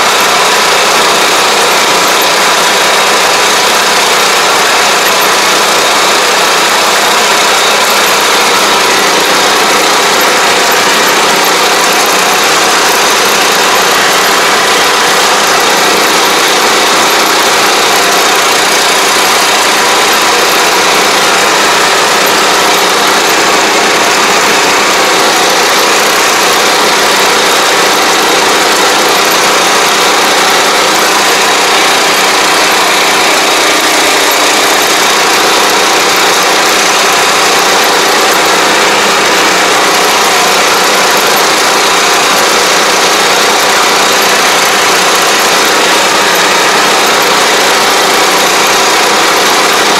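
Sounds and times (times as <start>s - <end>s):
sprayer engine droning: 0.0s - 49.9s.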